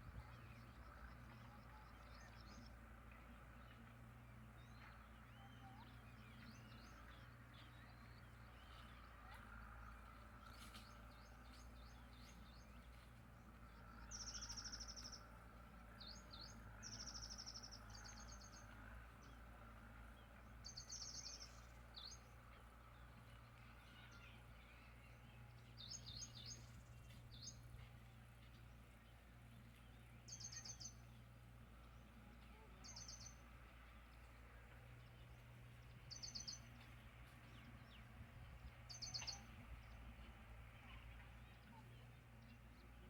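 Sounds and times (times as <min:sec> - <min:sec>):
birds chirping faintly: 0:00.0 - 0:43.0.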